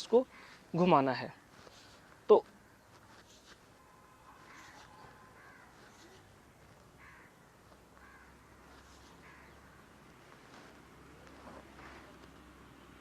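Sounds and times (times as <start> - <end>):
crows cawing faintly: 0.0 - 12.3.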